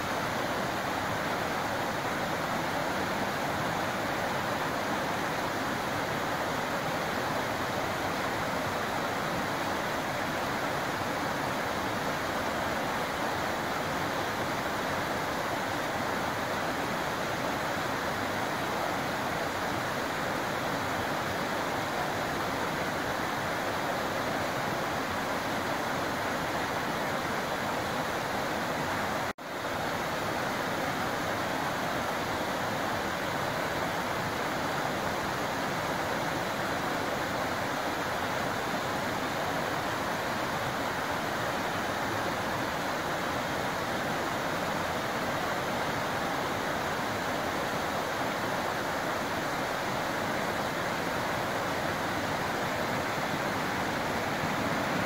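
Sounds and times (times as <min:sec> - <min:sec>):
creek rushing over rocks: 0:00.0 - 0:55.0.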